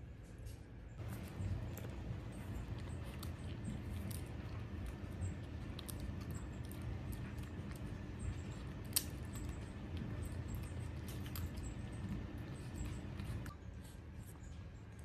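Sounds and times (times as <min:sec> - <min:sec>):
low steady rumble: 0:00.8 - 0:15.0
collar tags jingling: 0:01.0 - 0:13.5
dog crunching treats: 0:01.0 - 0:13.5
dog sniffing: 0:01.0 - 0:14.0.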